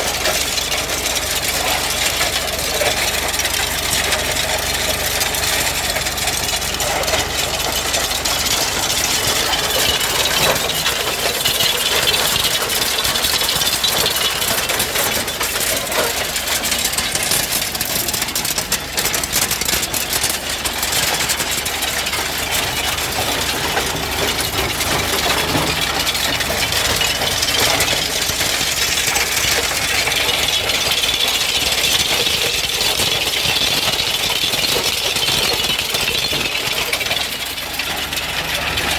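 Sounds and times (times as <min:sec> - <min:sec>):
tractor diesel engine clattering: 0:00.0 - 0:38.9.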